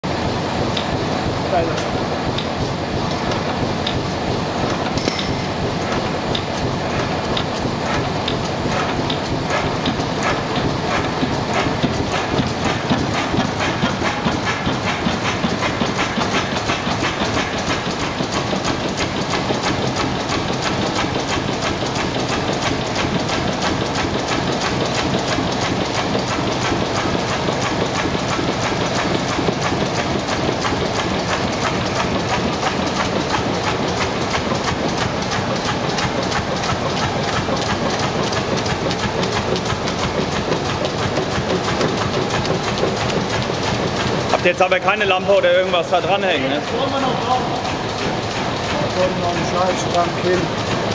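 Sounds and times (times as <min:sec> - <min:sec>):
stationary engine clattering: 0:00.1 - 0:50.9.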